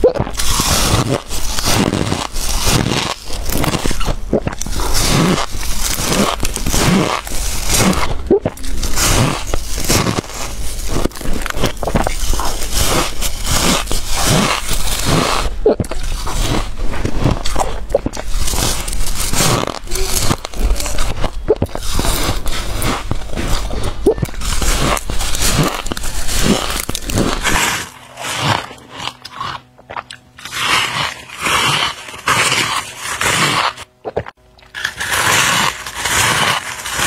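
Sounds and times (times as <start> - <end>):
frost being bitten and crunched: 0.0 - 37.0.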